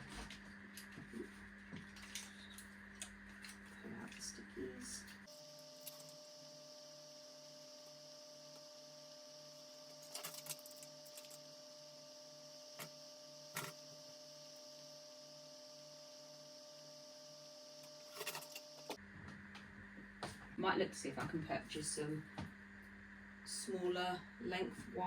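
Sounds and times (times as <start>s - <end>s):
faint pulsing electrical hum: 0.0s - 25.0s.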